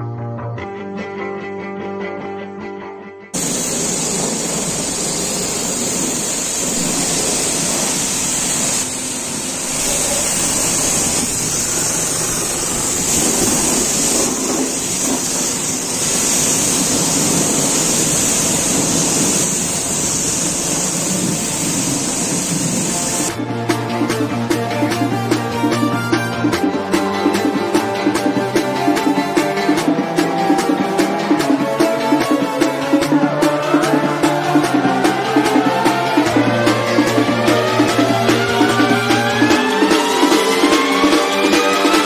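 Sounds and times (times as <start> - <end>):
pressure washer spraying metal: 3.4 - 42.0.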